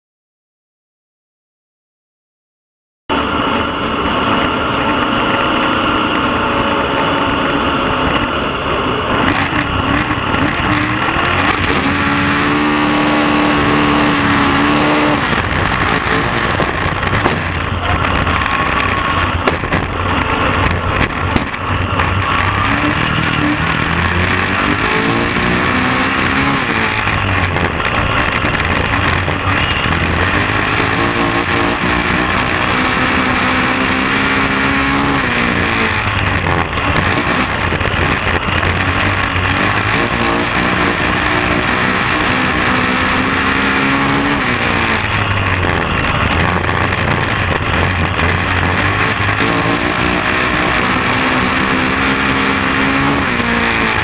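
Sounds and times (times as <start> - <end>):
race car engine roaring: 3.1 - 54.0.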